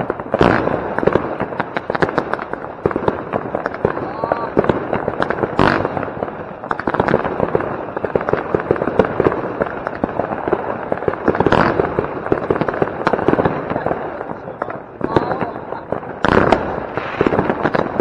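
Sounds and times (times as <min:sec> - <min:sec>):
firework bangs: 0:00.0 - 0:18.0
fireworks crackling: 0:00.0 - 0:18.0.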